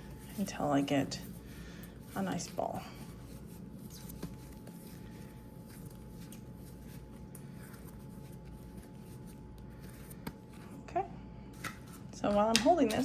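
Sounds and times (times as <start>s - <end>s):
hands working bread dough: 0.0s - 13.0s
steady low hum: 0.0s - 13.0s.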